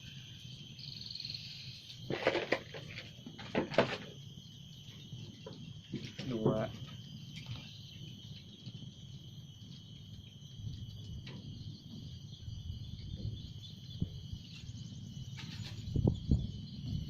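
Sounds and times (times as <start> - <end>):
insect chorus chirring: 0.0 - 17.0.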